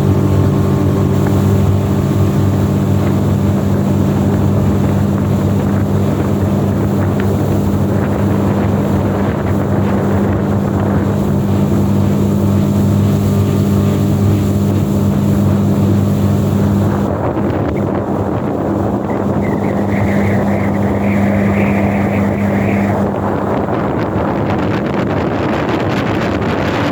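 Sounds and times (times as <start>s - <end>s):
outboard motor running: 0.0s - 26.9s
wind noise on microphone: 0.0s - 26.9s.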